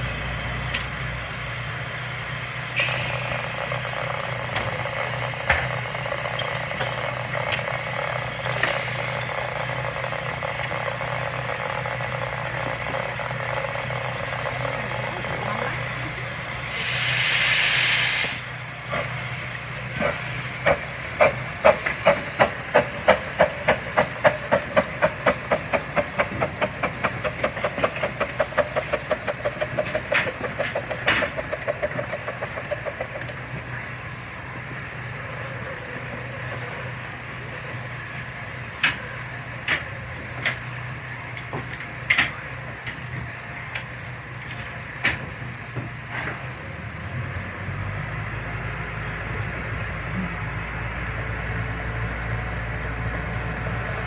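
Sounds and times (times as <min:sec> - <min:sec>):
steam locomotive exhaust beats: 0:00.0 - 0:54.0.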